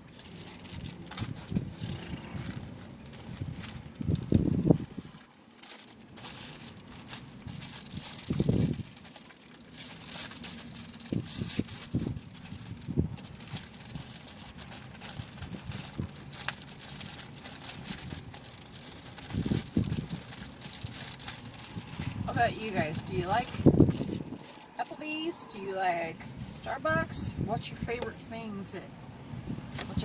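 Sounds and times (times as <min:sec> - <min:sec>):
food packaging crinkling: 0:00.0 - 0:24.8.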